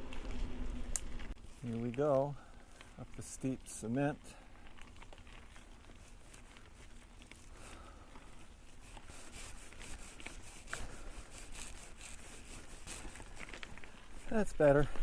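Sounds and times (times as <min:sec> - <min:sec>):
bike tyre and drivetrain noise: 0:00.0 - 0:15.0.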